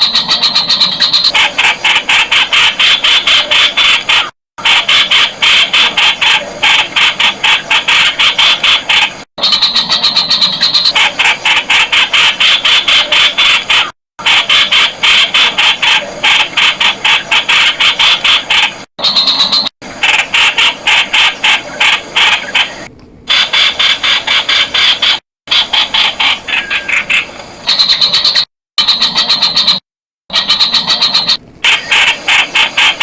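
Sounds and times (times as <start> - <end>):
bulbul calling sharp repeated notes: 0.0 - 33.0.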